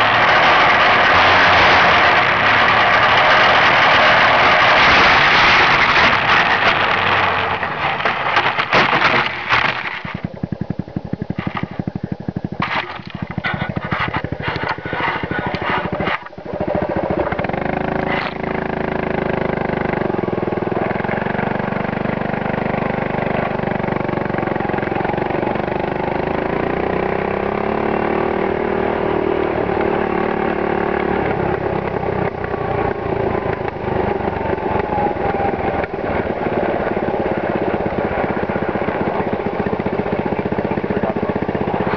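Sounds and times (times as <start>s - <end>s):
quad engine running: 0.0s - 41.9s.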